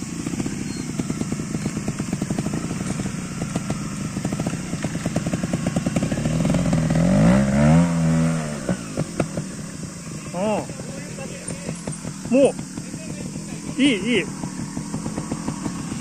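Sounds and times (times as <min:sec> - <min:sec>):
motorcycle engine chugging and revving: 0:00.0 - 0:16.0.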